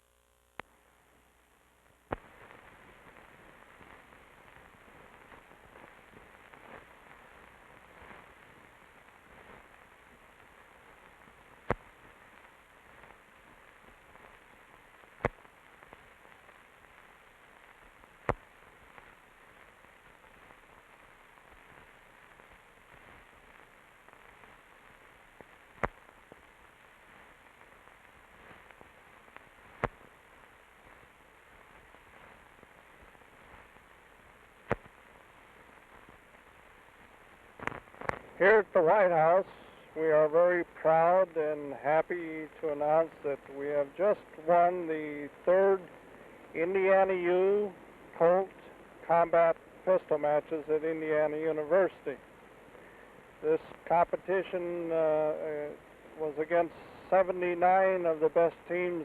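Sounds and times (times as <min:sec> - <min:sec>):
film soundtrack hiss: 0:00.0 - 0:59.0.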